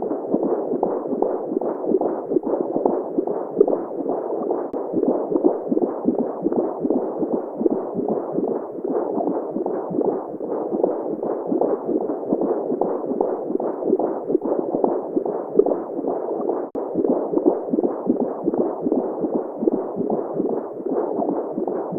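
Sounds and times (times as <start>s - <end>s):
heartbeat pulse: 0.0s - 21.9s.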